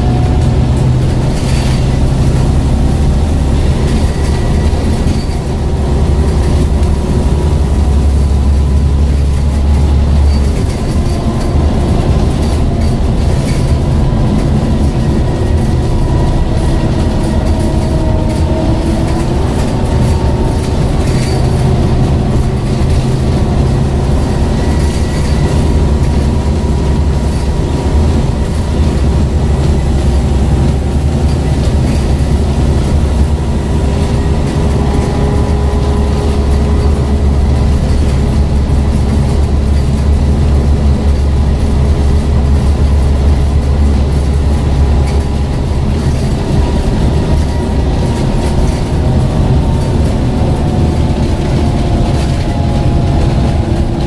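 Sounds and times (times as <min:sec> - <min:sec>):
bus diesel engine running: 0:00.0 - 0:54.0
road noise: 0:00.0 - 0:54.0.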